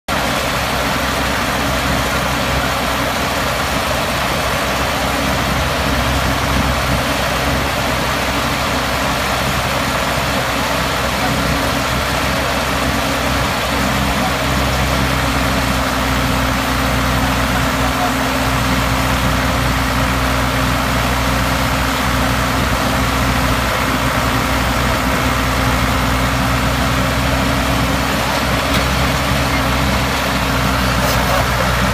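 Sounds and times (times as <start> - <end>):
drilling machine engine running: 0.1 - 31.9.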